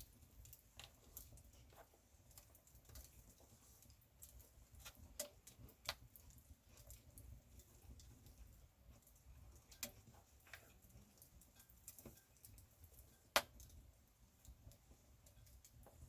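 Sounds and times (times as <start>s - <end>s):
campfire crackling: 0.0s - 16.0s
fire popping: 0.0s - 16.0s.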